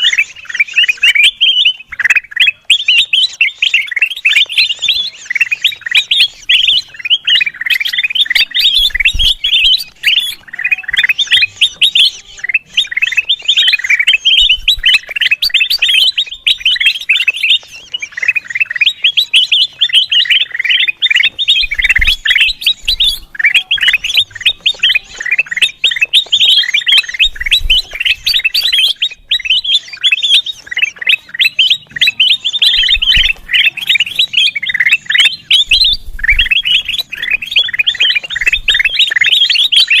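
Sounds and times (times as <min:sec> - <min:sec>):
bird chattering and chirping: 0:00.0 - 0:40.0.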